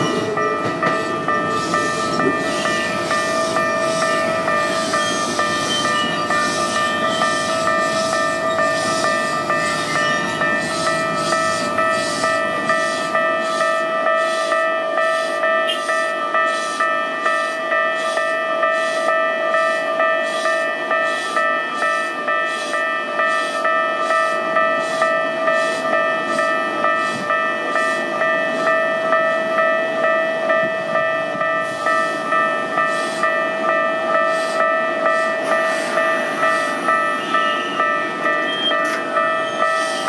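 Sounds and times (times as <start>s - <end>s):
level-crossing warning bell: 0.0s - 40.0s
train rumbling past: 0.0s - 40.0s.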